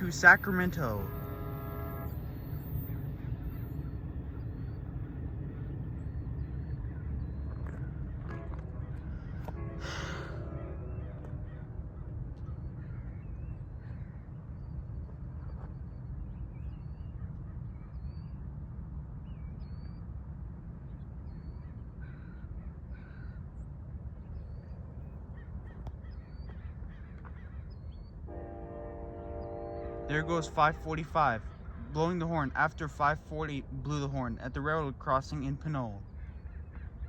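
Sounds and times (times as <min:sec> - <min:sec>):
passenger train rumbling by: 0:00.0 - 0:22.0, 0:28.1 - 0:37.0.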